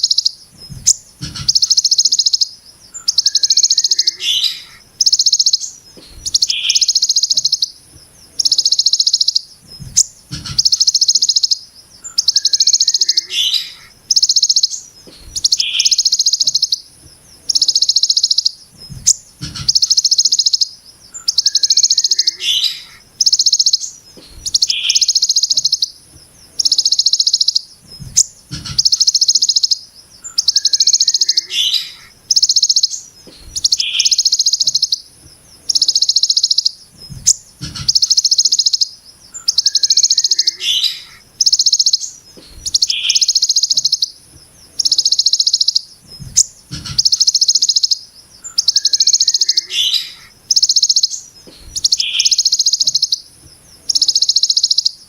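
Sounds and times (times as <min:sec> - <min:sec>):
bird buzzing trill: 0:00.0 - 0:55.0
steady high hiss: 0:00.0 - 0:55.0.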